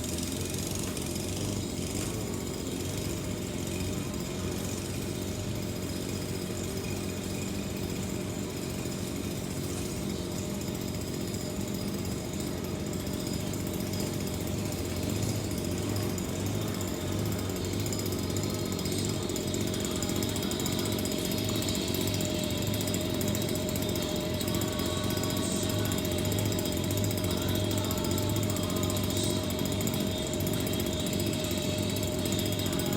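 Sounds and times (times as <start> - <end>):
small engine running: 0.0 - 32.9.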